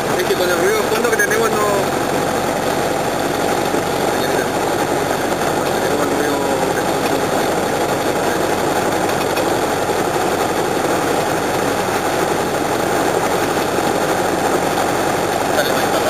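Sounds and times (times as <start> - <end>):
light aircraft engine and propeller: 0.0 - 16.0.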